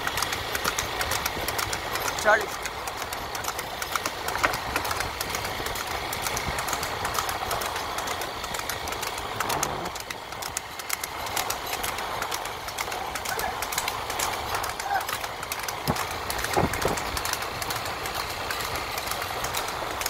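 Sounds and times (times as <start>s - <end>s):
irregular rattling clatter: 0.0s - 20.0s
motorcycle engine running: 0.0s - 20.0s.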